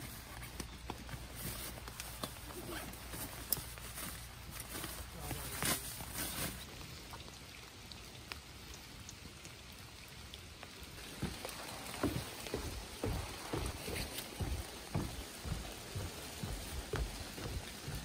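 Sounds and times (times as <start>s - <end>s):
footsteps on wet wooden boardwalk: 0.0s - 7.2s, 10.5s - 18.0s
rain pattering: 0.0s - 18.0s.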